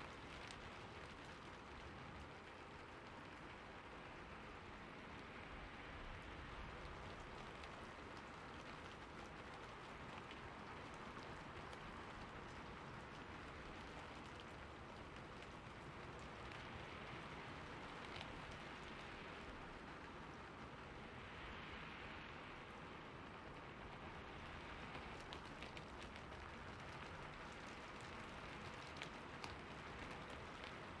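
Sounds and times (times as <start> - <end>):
raindrop ticks: 0.0 - 31.0
steady rain hiss: 0.0 - 31.0.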